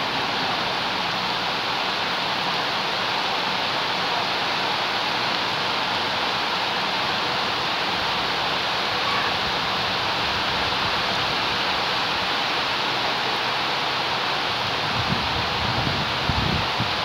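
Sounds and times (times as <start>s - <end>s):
rain falling on plants: 0.0s - 17.0s.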